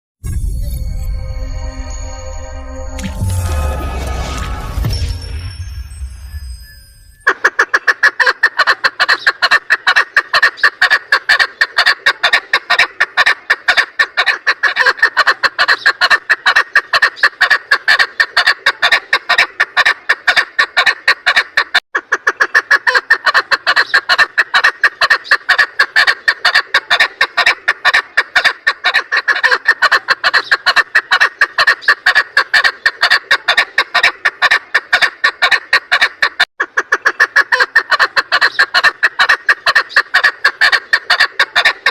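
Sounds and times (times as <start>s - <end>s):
partridge clucking calls: 7.2s - 41.9s.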